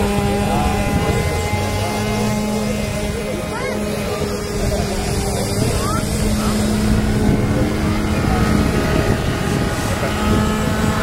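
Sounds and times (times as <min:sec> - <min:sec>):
model jet electric motor humming: 0:00.0 - 0:11.0
wind rumble on microphone: 0:00.0 - 0:11.0.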